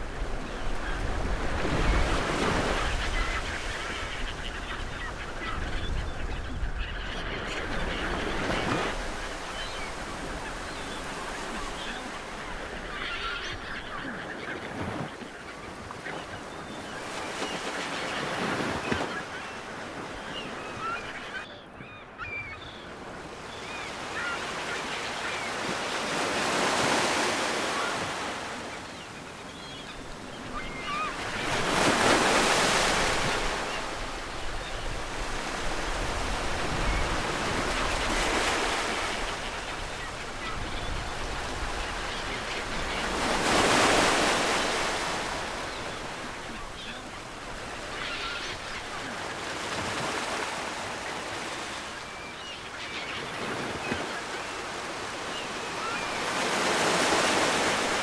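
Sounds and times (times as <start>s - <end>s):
waves breaking on shore: 0.0s - 22.0s, 22.9s - 58.0s.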